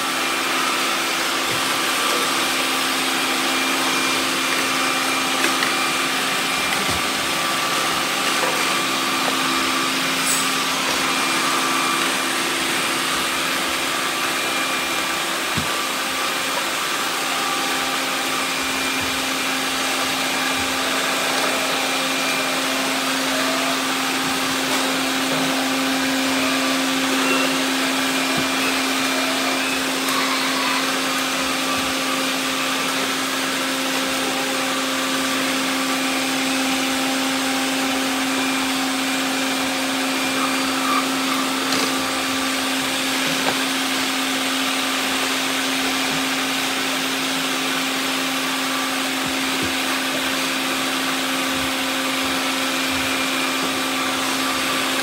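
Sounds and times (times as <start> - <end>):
robot vacuums whirring: 0.0 - 55.0.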